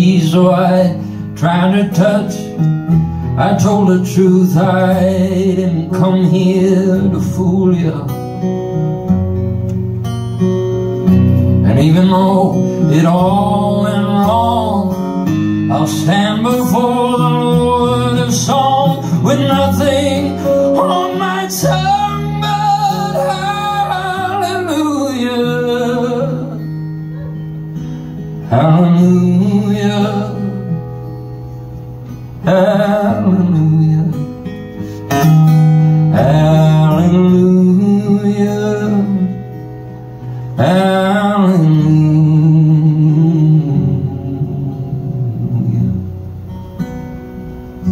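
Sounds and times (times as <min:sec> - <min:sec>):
man singing a slow ballad: 0:00.0 - 0:08.5, 0:11.6 - 0:27.4, 0:28.4 - 0:31.1, 0:32.1 - 0:46.3
acoustic guitar strumming: 0:00.0 - 0:47.9.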